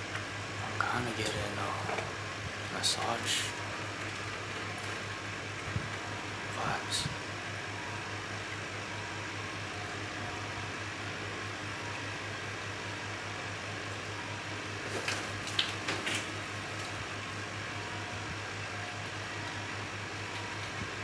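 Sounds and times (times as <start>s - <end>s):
ventilation hum: 0.0s - 21.0s.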